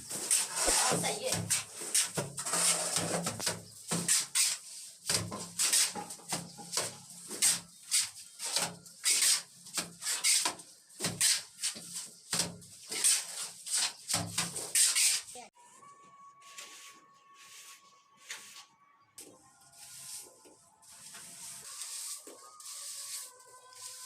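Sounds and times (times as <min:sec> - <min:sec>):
steel trowel scraping plaster: 0:00.1 - 0:15.5, 0:19.7 - 0:24.0.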